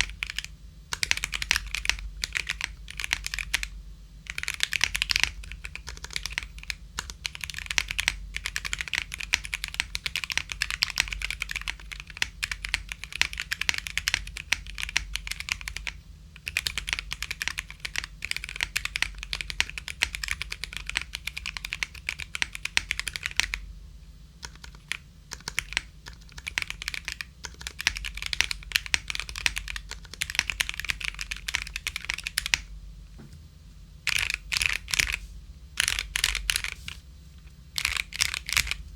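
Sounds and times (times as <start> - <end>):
mechanical keyboard typing: 0.0 - 23.6, 24.4 - 32.7, 34.1 - 35.2, 35.8 - 37.0, 37.8 - 38.9.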